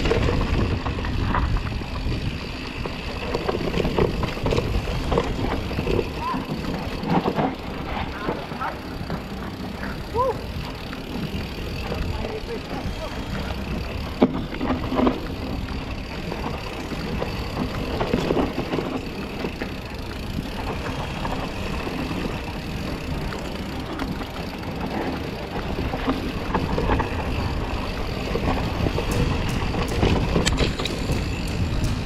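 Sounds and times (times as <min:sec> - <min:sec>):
bike rattling over bumps: 0:00.0 - 0:32.0
bike tyres rumbling on dirt: 0:00.0 - 0:32.0.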